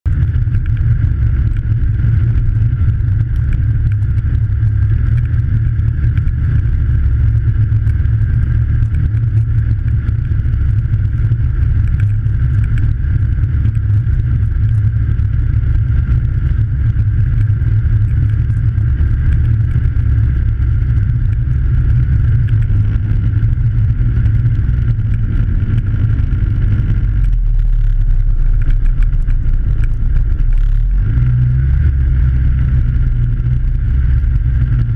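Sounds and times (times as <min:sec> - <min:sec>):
snowmobile engine droning: 0:00.1 - 0:34.9.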